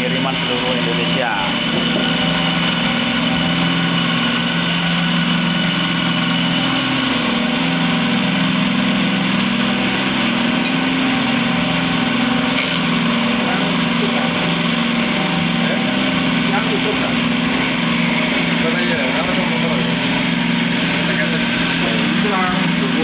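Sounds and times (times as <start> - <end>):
cotton candy machine drone: 0.0 - 23.0.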